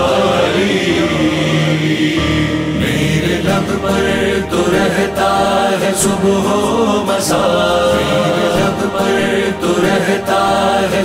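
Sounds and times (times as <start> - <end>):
male chorus singing: 0.0 - 11.0
man singing lead vocal: 0.0 - 11.0.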